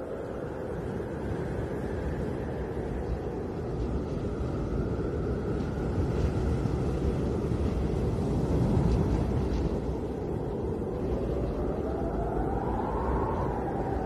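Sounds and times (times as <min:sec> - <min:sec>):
faint wavering wind whistle: 0:00.0 - 0:14.0
wind low rumbling: 0:00.0 - 0:14.0.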